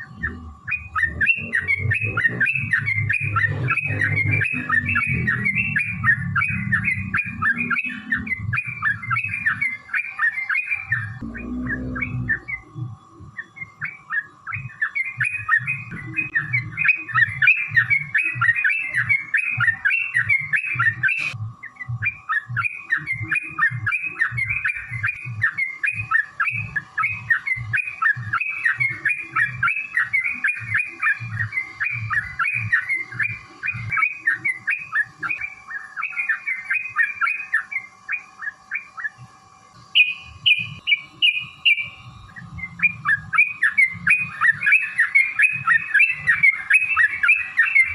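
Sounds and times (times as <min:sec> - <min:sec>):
bulbuls singing chattering phrases: 0:00.0 - 0:47.9.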